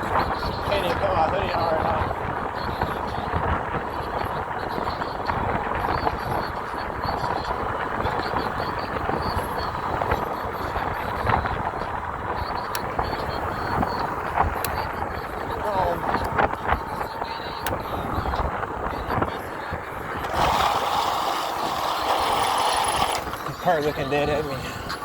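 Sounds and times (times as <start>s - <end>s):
bike road noise: 0.0s - 25.0s
wind noise on microphone: 0.0s - 25.0s.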